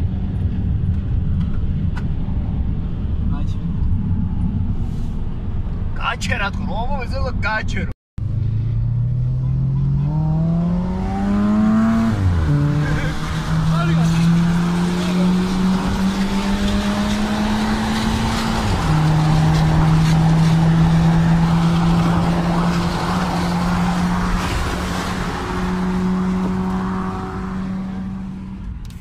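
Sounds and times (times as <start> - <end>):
car engines at full throttle: 0.0 - 6.2, 8.2 - 29.0
road and tyre noise: 0.0 - 29.0.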